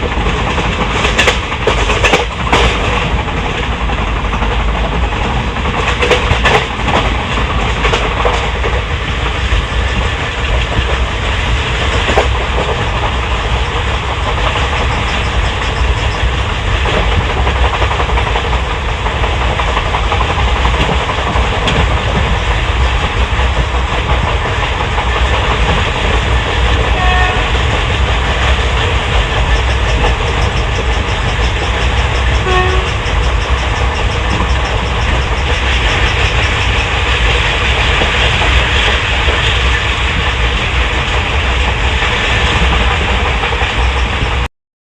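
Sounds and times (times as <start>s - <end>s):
train wheels rumbling and rattling: 0.0s - 44.5s.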